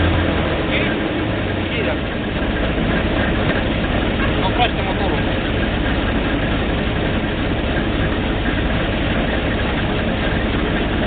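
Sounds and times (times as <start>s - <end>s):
drilling rig engine droning: 0.0s - 11.0s.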